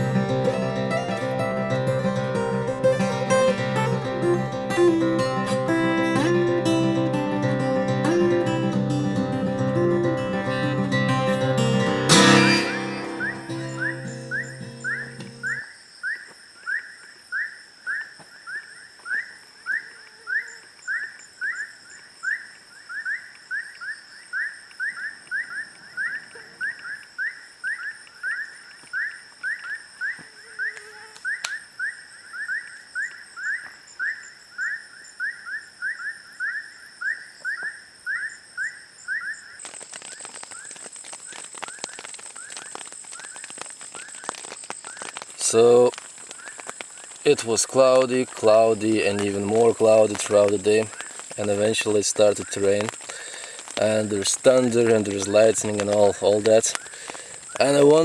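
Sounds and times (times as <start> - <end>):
high insect drone: 0.0 - 58.0
rain falling with crackle: 0.0 - 58.0.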